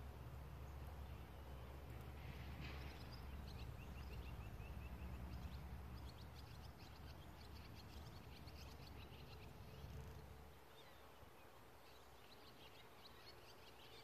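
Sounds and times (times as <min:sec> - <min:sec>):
birds singing: 0:00.0 - 0:14.0.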